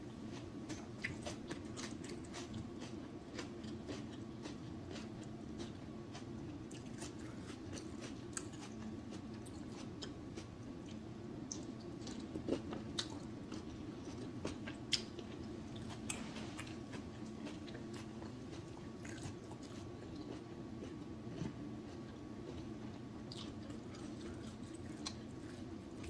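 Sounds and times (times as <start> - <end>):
steady low hum: 0.0 - 26.0
close-miked wet chewing: 0.3 - 26.0.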